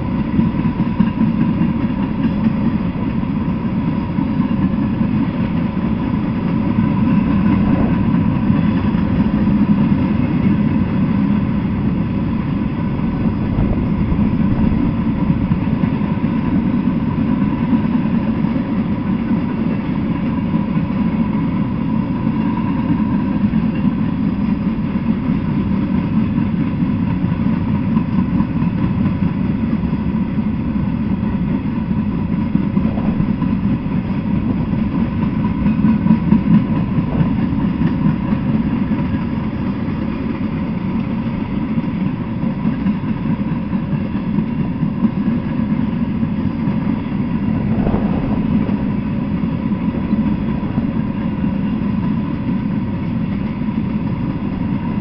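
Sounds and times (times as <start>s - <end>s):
steel wheels rolling on rail: 0.0s - 55.0s.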